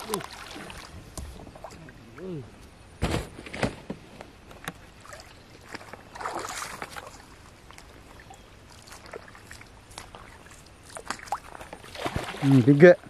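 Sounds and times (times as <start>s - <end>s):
water sloshing and splashing: 0.0s - 2.2s, 4.6s - 13.0s.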